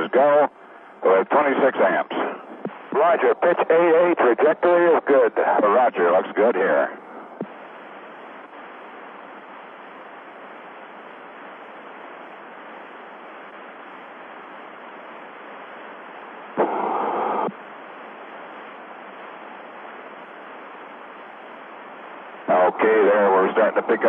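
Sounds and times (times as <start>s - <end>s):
burst of static: 0.0s - 24.0s
radio link hiss: 0.0s - 24.0s.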